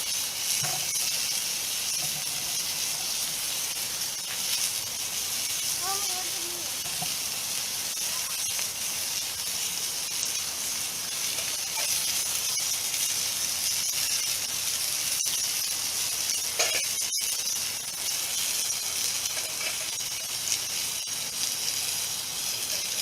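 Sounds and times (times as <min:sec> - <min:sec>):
burger patty sizzling in a pan: 0:00.0 - 0:23.0.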